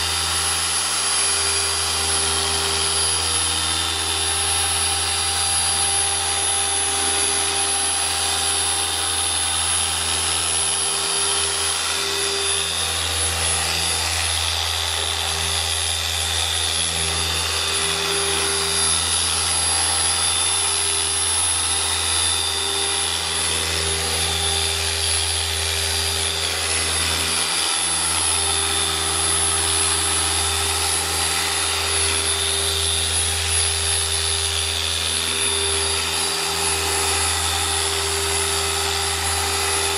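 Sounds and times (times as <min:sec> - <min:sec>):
electric polisher motor hum: 0:00.0 - 0:39.9.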